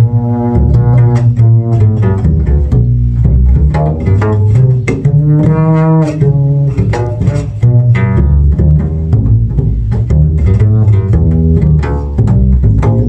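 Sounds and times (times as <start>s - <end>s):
double bass low notes: 0.0s - 13.0s.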